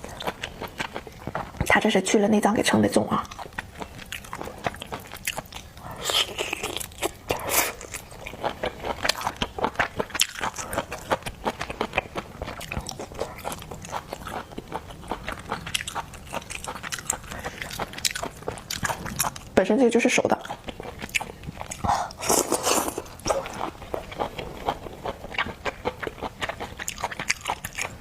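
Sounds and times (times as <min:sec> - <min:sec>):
person chewing with crackly clicks: 0:00.0 - 0:02.0, 0:03.1 - 0:28.0.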